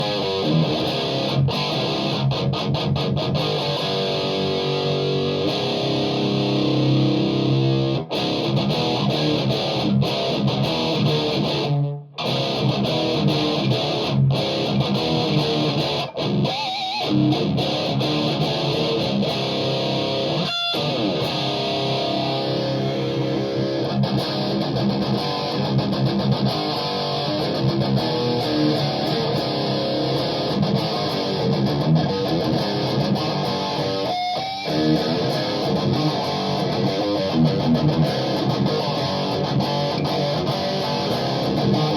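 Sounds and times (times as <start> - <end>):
electric guitar heavy riffs: 0.0 - 41.9.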